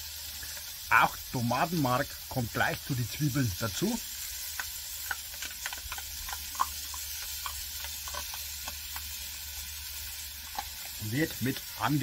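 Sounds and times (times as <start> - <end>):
onions sizzling in a pot: 0.0 - 12.0.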